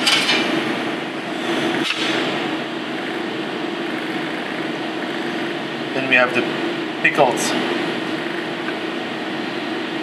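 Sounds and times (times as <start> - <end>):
ventilation hum: 0.0 - 10.0.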